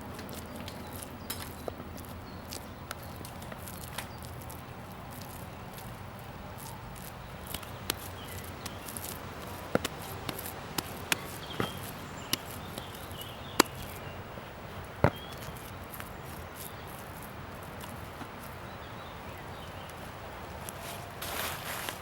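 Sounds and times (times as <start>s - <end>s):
hands squelching wet clay: 0.0s - 21.1s
outdoor background hiss: 0.0s - 22.0s.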